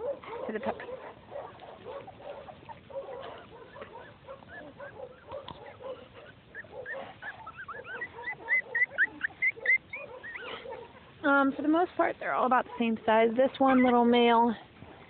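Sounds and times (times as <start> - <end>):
puppies whimpering: 0.0 - 11.5, 12.3 - 14.4.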